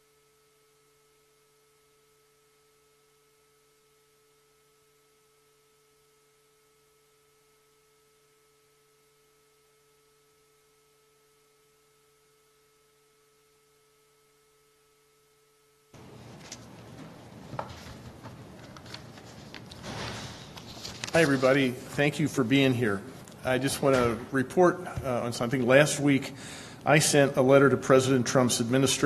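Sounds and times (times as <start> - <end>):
faint electrical hum: 0.0 - 29.0
low room noise: 0.0 - 29.0.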